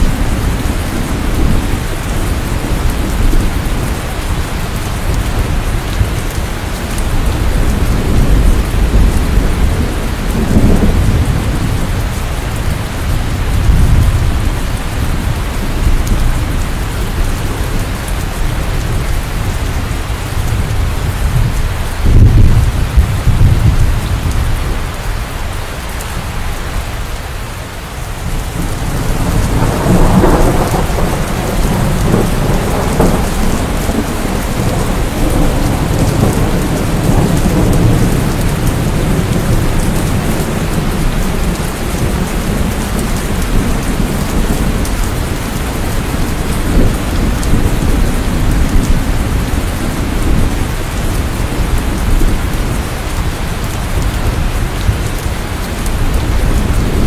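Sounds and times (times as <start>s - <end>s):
thunder rumbling: 0.0s - 25.2s, 28.0s - 57.0s
steady rain: 0.0s - 57.0s.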